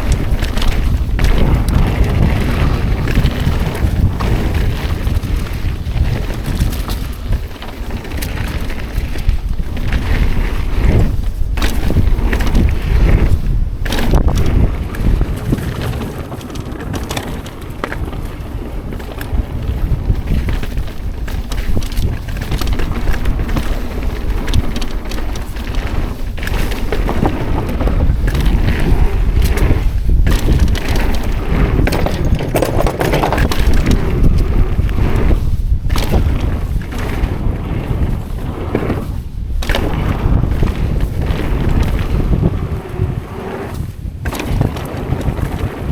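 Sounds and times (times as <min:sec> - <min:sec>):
bike knocks and rattles: 0:00.0 - 0:45.9
wind buffeting microphone: 0:00.0 - 0:45.9.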